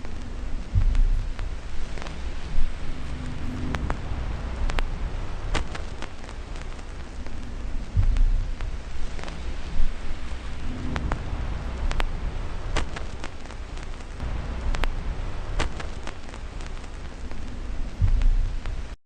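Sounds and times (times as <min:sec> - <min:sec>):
steady hiss: 0:00.0 - 0:19.0
deep rumbles: 0:00.3 - 0:19.0.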